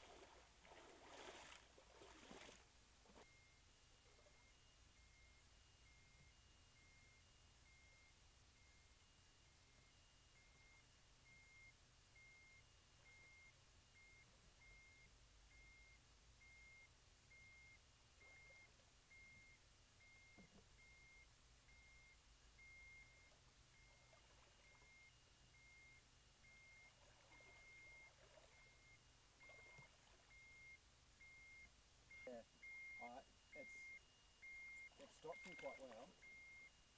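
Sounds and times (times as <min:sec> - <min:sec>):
faint high beeps: 0:03.2 - 0:36.9.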